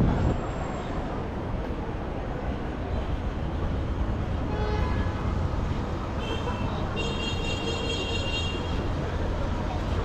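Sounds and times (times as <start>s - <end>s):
vehicles rumbling past: 0.0s - 10.0s.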